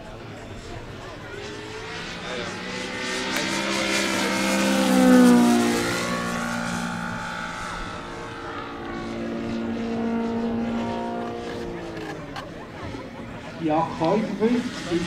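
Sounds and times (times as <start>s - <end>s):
model airplane radial engine: 0.0s - 15.0s.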